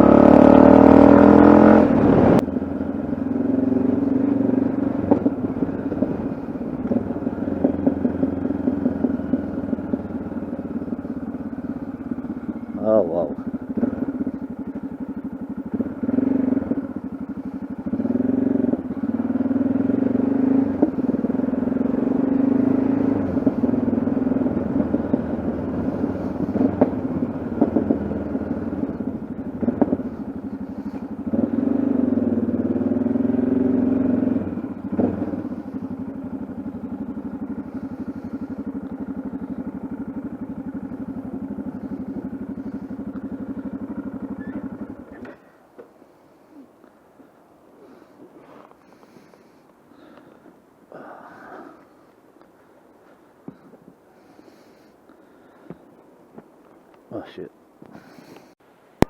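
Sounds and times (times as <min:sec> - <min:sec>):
motorcycle engine running: 0:00.0 - 0:58.6.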